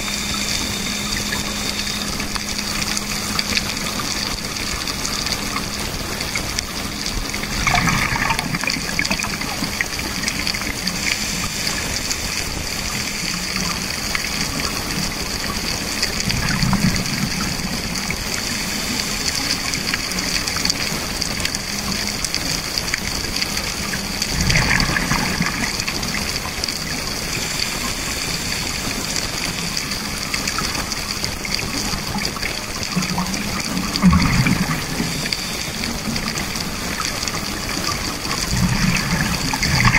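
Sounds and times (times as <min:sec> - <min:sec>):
diver bubbles gurgling: 0:00.0 - 0:39.9
underwater hiss: 0:00.0 - 0:39.9.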